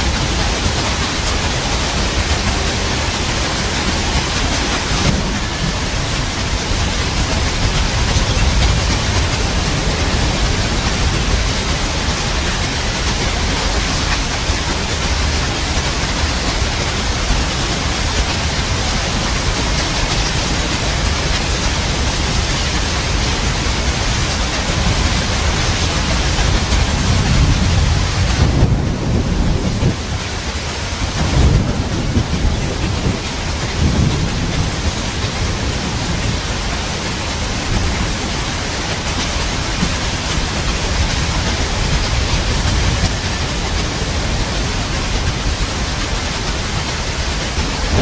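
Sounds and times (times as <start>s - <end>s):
heavy rain: 0.0s - 48.0s
rolling thunder: 0.0s - 48.0s.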